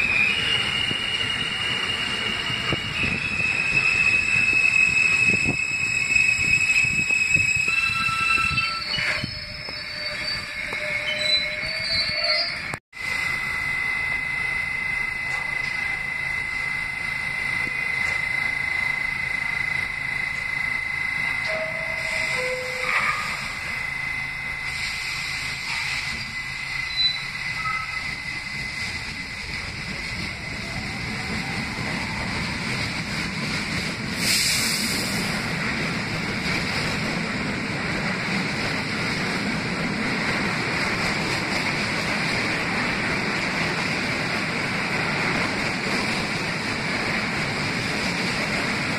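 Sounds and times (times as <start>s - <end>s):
high whine: 0.0s - 48.9s
subway train rumble: 0.0s - 48.9s.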